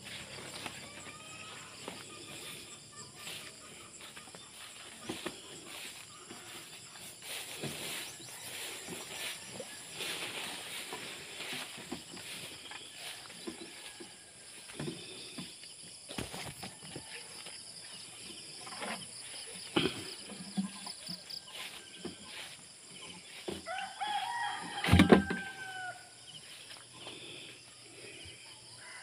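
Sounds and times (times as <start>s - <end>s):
soft footsteps in vegetation: 0.0s - 27.5s
rustling of grass and leaves: 0.0s - 28.7s
insects chirring: 0.0s - 29.0s.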